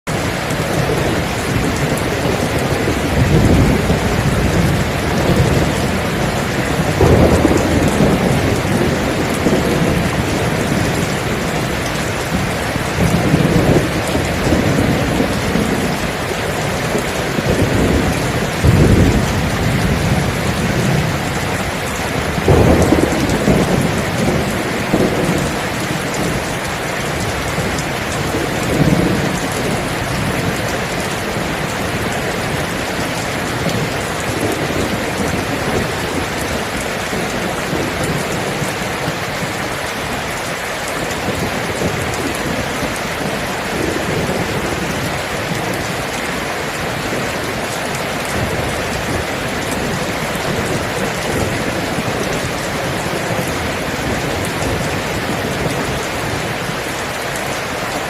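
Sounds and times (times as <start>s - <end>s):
heavy rainfall: 0.0s - 58.0s
thunder rumbling: 0.1s - 58.0s.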